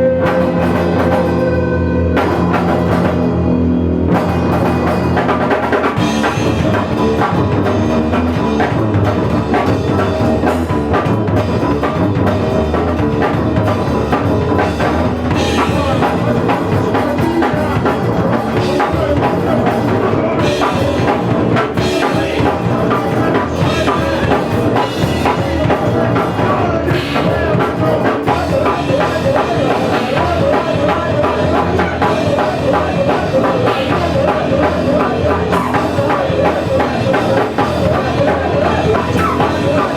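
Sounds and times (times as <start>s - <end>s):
bass line: 0.0s - 39.9s
punk rock drum kit: 0.0s - 39.9s.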